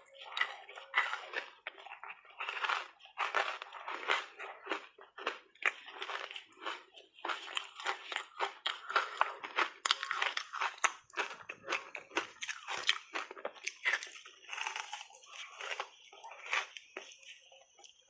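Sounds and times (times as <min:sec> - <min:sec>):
ice crunching being chewed: 0:00.0 - 0:18.0.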